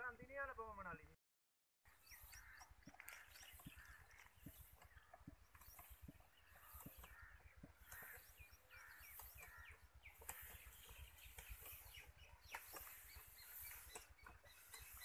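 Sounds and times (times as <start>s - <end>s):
faint bird chirps: 1.9s - 15.0s.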